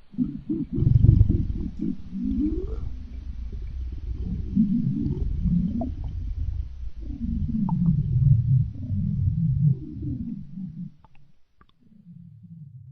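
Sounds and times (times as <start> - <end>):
stomach growling: 0.0 - 12.9.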